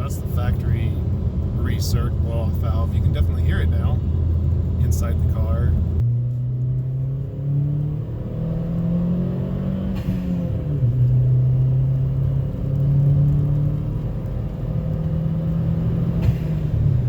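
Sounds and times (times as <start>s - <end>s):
car engine while driving: 0.0s - 17.0s.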